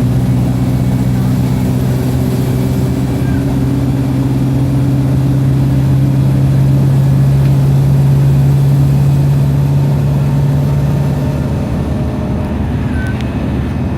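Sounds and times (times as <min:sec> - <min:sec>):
bus engine droning: 0:00.0 - 0:13.9
road noise: 0:00.0 - 0:13.9.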